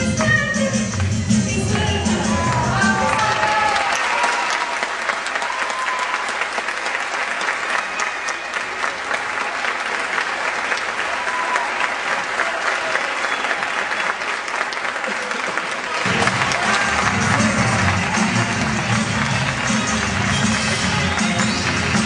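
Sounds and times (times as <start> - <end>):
audience applauding: 2.2 - 22.0.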